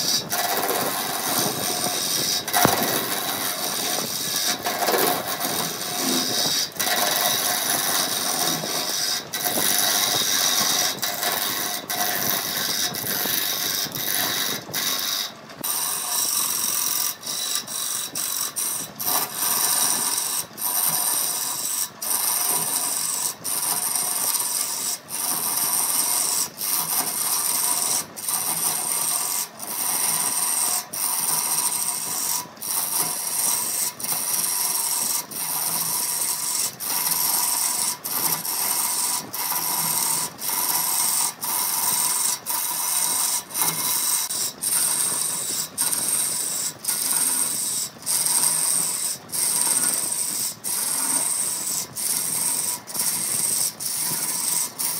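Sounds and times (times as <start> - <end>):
lathe gouge rasping wood: 0.0 - 54.9.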